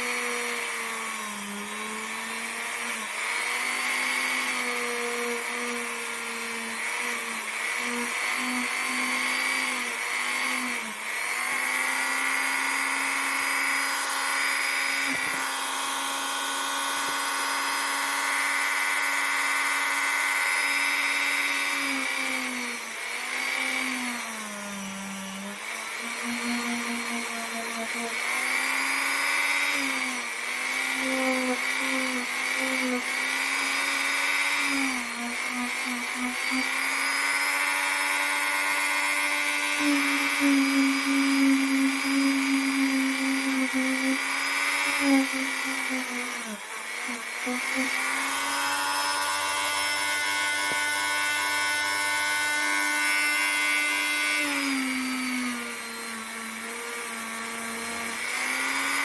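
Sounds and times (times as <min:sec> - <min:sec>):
rotary tool whine: 0:00.0 - 0:59.0.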